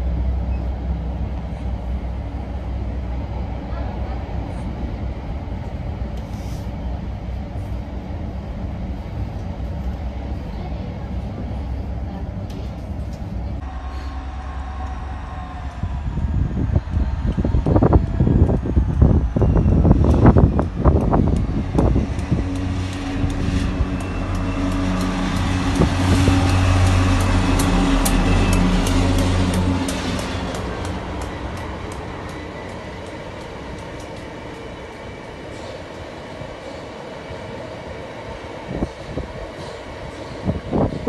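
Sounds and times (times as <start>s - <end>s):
diesel locomotive engine droning: 0.0s - 41.0s
train wheels rumbling on rails: 0.0s - 41.0s.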